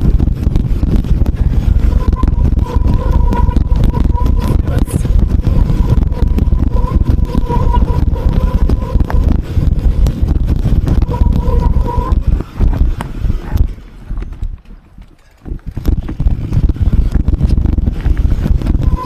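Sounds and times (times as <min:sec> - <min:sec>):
heavy rumble: 0:00.0 - 0:19.0
wind buffeting microphone: 0:00.0 - 0:19.0.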